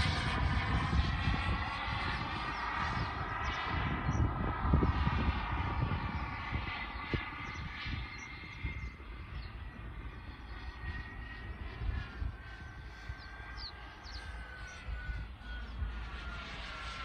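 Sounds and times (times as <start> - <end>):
distant jet turbine whine: 0.0 - 17.0
wind rumble on microphone: 0.0 - 17.0.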